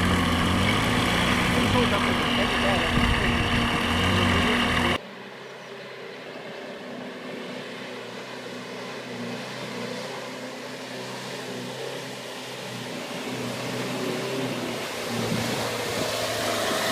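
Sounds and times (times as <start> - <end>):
off-road vehicle engine running: 0.0 - 5.0, 6.6 - 16.9.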